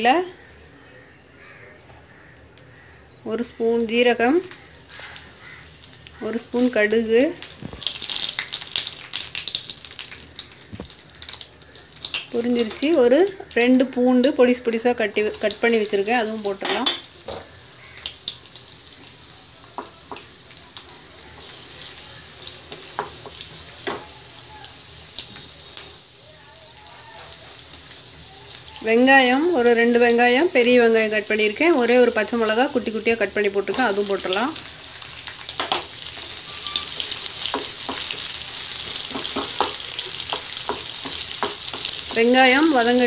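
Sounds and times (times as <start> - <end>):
spices sizzling in hot oil: 2.1 - 43.0.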